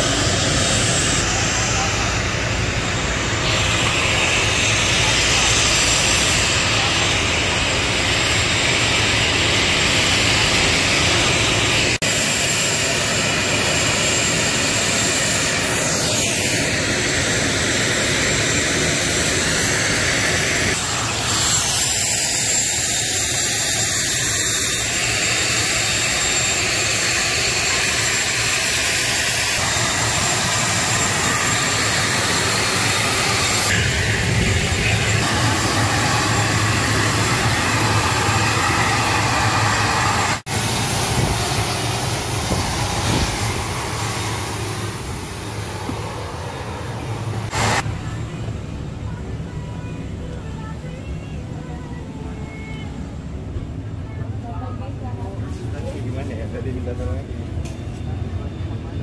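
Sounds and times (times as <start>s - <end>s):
high engine whine: 0.0s - 59.0s
turboprop engine roaring: 0.0s - 59.0s.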